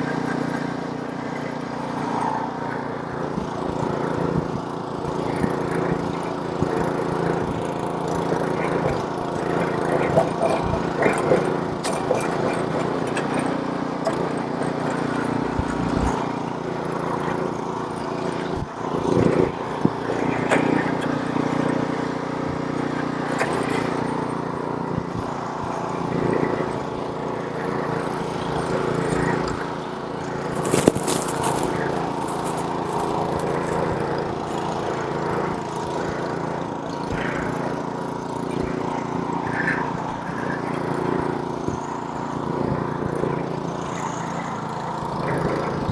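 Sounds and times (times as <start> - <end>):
snowblower engine running: 0.0 - 45.9.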